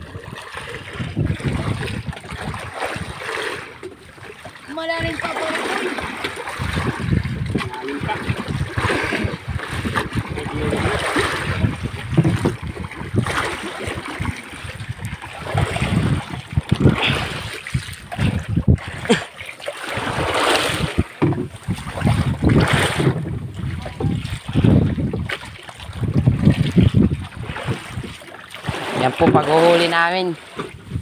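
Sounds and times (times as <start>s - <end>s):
wind buffeting microphone: 0.0s - 19.2s, 19.9s - 31.0s
sea water rushing and splashing: 0.0s - 31.0s.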